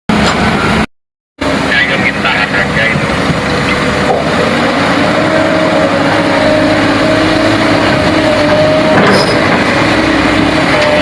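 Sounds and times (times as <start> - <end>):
excavator diesel engine running: 0.1 - 11.0.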